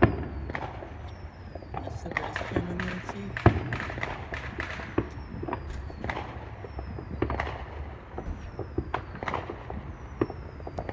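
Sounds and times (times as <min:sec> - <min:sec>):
fireworks popping and cracking: 0:00.0 - 0:10.9
low rumble: 0:00.0 - 0:10.9.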